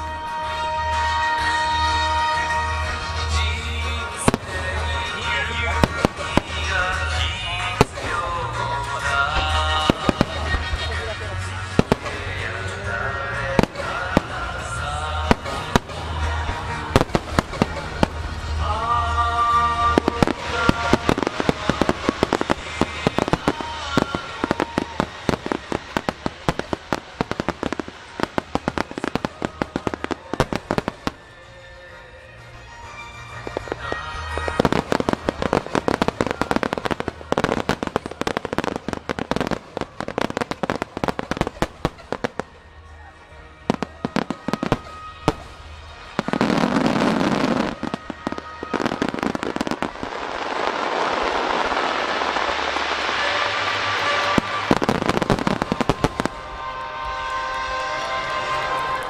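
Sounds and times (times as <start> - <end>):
background music: 0.0 - 59.0
fireworks bursting: 0.0 - 59.0.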